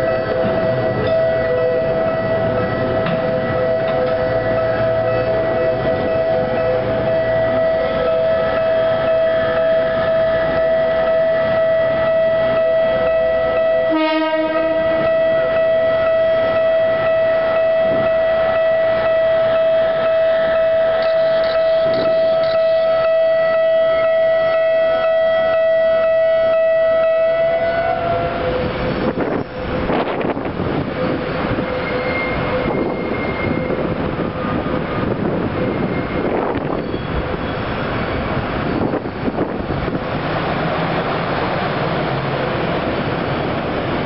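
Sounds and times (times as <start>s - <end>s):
level crossing alarm ringing: 0.0s - 37.6s
diesel locomotive rumbling: 0.0s - 44.0s.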